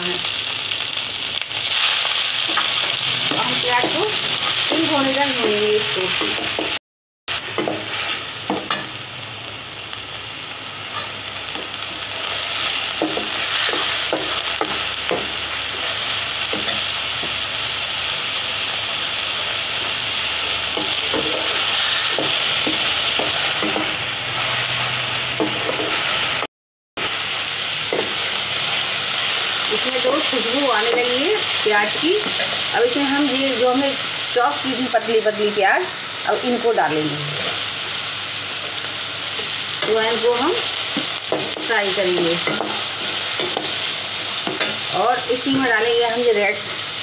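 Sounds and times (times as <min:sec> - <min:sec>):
onion sizzling in hot oil: 0:00.0 - 0:47.0.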